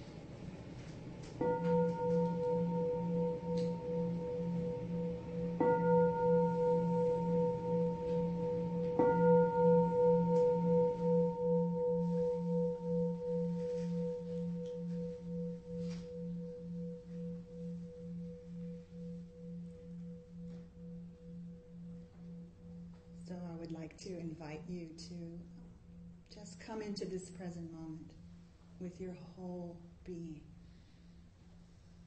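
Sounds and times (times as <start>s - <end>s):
meditation bell ringing: 0.0s - 26.7s.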